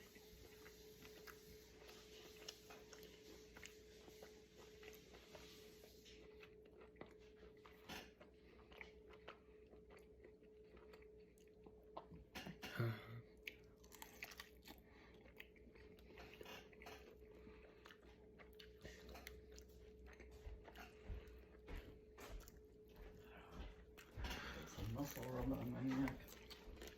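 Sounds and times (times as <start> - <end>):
person chewing: 0.0 - 26.9.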